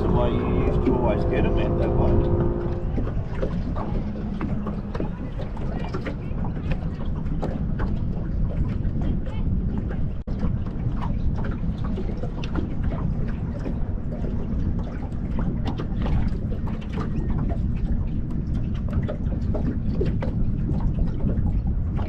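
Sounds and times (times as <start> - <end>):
waves lapping against hull: 0.0 - 22.0
wind buffeting microphone: 0.0 - 22.0.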